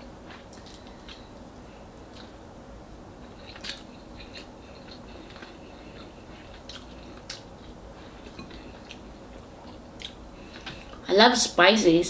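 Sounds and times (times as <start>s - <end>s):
person chewing food: 0.0s - 2.5s, 3.1s - 11.0s.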